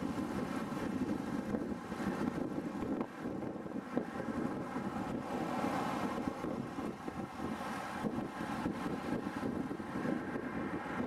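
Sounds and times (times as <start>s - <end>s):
wind rush on microphone: 0.0s - 11.0s.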